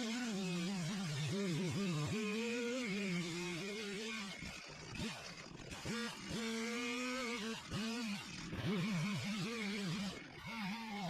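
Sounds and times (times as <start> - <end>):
chainsaw revving in a cut: 0.0 - 11.0.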